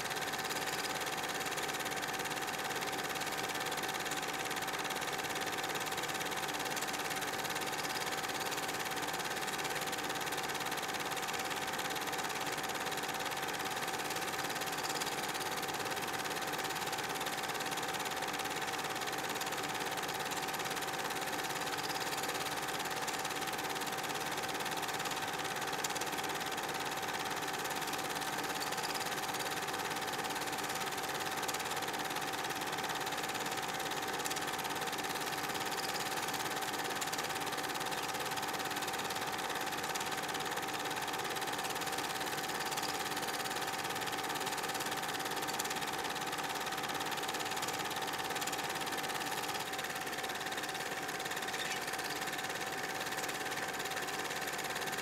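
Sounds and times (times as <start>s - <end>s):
film projector whirring and clattering: 0.0s - 55.0s.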